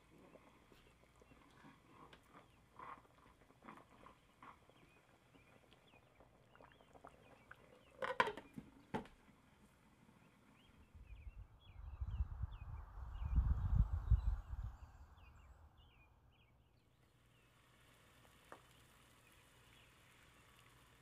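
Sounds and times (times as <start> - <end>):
faint simmering: 0.0 - 21.0.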